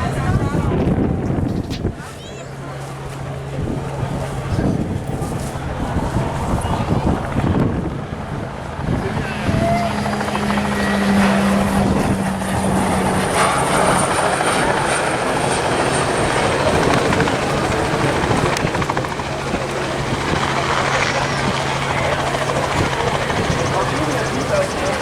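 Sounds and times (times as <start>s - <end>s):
aircraft noise: 0.0s - 25.0s.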